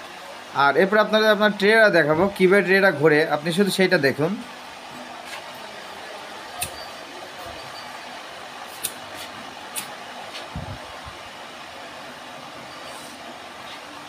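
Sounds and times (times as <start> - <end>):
incubator fan whirring hum: 0.0 - 14.0.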